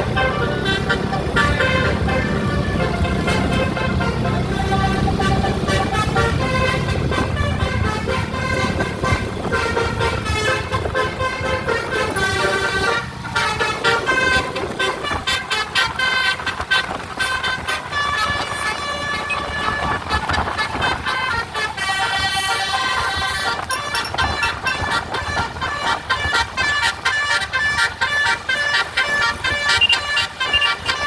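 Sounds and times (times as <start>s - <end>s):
low engine rumble: 0.0s - 31.0s
multi-tone musical bus horn: 0.0s - 31.0s.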